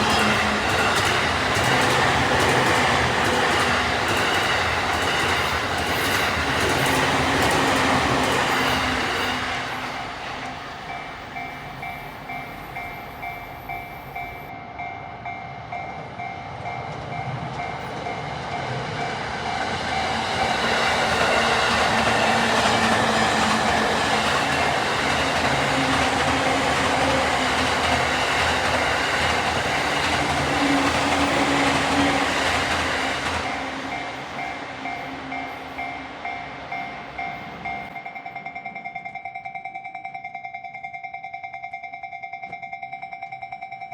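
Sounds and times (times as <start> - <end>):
level-crossing warning bell: 0.0 - 43.9
train passing: 0.0 - 43.9.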